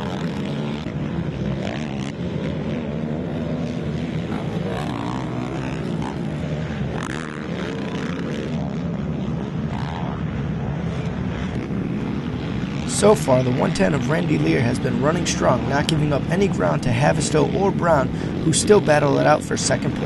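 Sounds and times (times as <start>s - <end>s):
quad engines revving: 0.0s - 20.0s.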